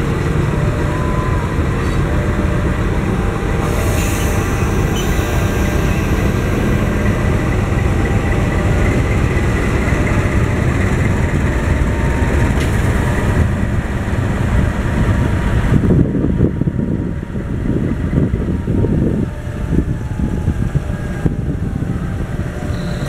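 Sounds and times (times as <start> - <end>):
freight train rumbling past: 0.0 - 23.0
locomotive pulsing rumble: 0.0 - 23.0.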